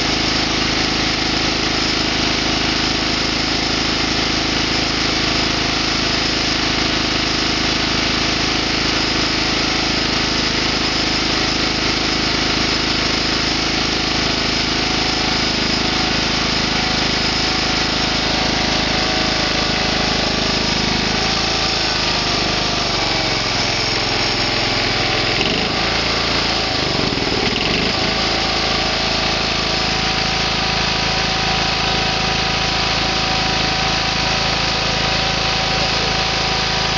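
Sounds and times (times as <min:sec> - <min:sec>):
lawn tractor engine running: 0:00.0 - 0:36.9.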